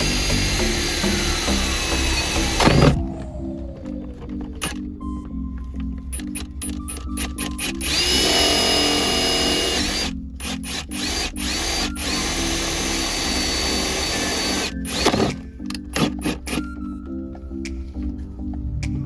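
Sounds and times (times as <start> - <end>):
electric drill motor whine: 0.0 - 4.9, 6.1 - 16.8.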